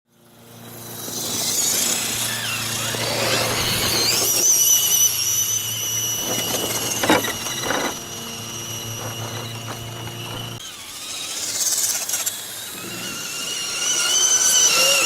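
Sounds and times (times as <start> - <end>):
electric motor and gear whine: 0.1 - 15.0.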